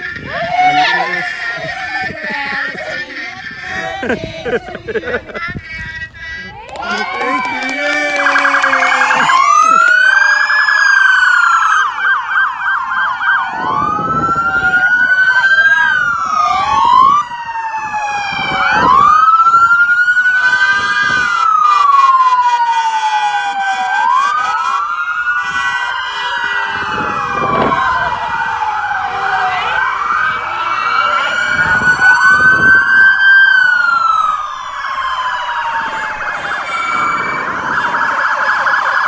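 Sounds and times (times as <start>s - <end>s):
police sirens wailing: 0.0s - 39.0s
rapid pulsing siren tone: 0.0s - 39.0s
siren yelp: 0.0s - 39.0s.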